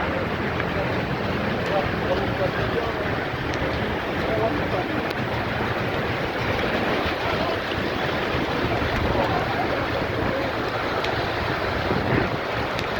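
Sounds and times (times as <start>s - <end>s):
strong wind buffeting microphone: 0.0s - 12.9s.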